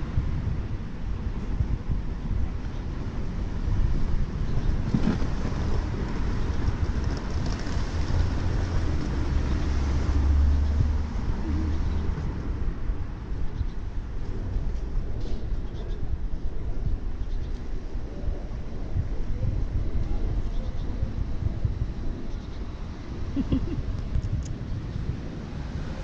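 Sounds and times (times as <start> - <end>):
street noise rumble: 0.0 - 26.0.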